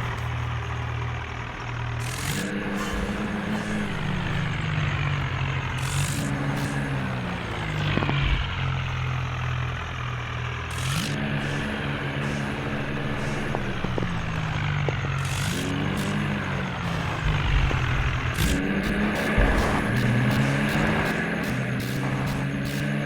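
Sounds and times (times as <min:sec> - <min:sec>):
tractor engines working hard: 0:00.0 - 0:23.0.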